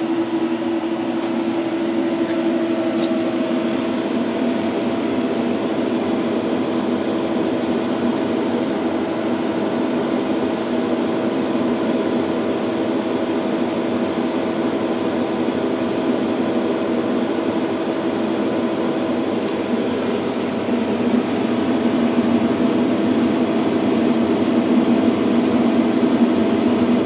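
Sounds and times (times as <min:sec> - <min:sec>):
machine fans and motors humming: 0:00.0 - 0:27.0.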